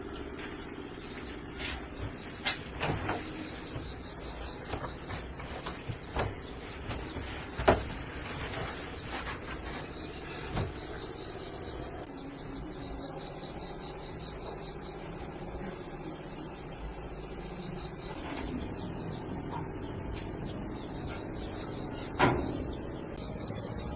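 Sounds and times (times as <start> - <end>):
insects chirring: 0.0 - 23.9.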